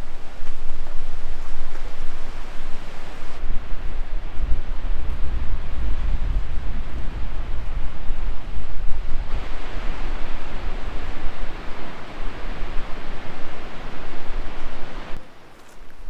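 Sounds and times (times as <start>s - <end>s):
wind buffeting microphone: 0.0s - 15.2s
flowing water: 0.0s - 15.5s.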